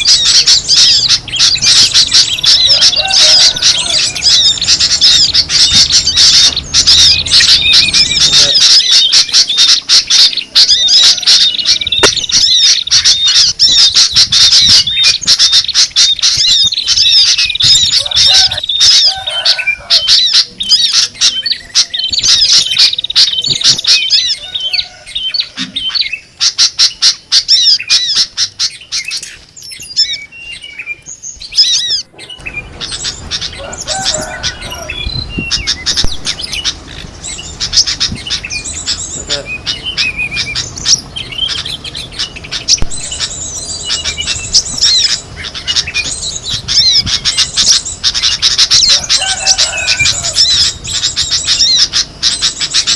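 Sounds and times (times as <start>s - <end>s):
songbirds chattering and chirping: 0.0s - 52.9s.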